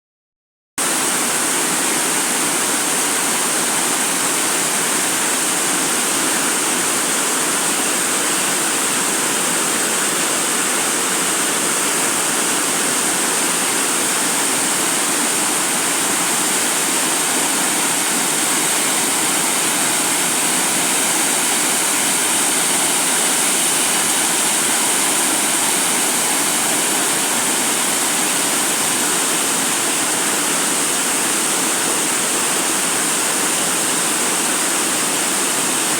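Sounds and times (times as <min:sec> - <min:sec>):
waterfall rushing: 0:00.8 - 0:35.9.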